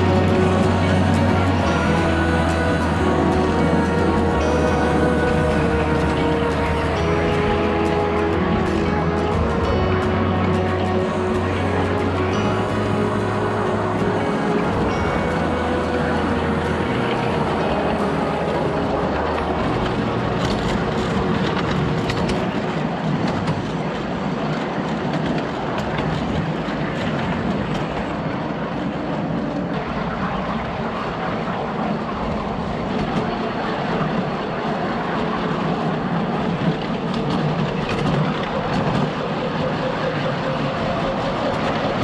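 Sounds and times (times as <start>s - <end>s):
miniature train running: 0.0s - 42.0s
train wheels clicking: 0.0s - 42.0s.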